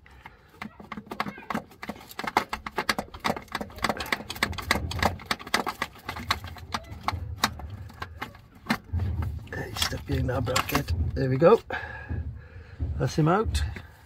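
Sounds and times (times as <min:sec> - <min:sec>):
metal knocks and clatter: 0:00.0 - 0:14.0.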